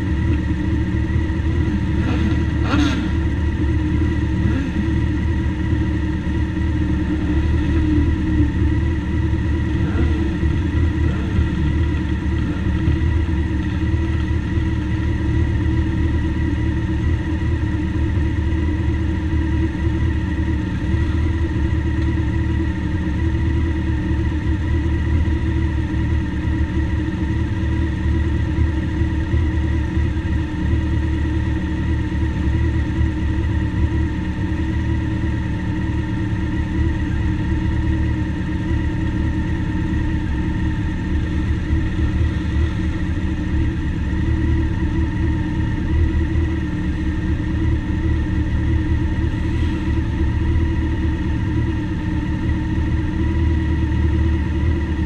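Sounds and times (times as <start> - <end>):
motorcycle engine revving: 0.0 - 55.0
motorcycle engines idling: 0.0 - 55.0.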